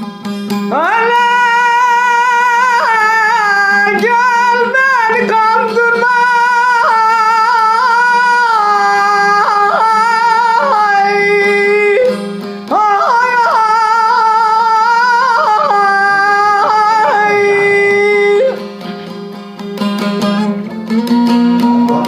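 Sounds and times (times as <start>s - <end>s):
person singing in free rhythm: 0.0s - 22.0s.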